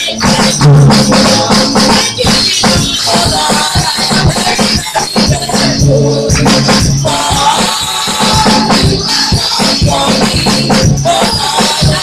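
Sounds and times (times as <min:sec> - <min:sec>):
keyboard: 0:00.0 - 0:12.0
percussion beat: 0:00.0 - 0:12.0
women singing into microphones: 0:00.0 - 0:12.0.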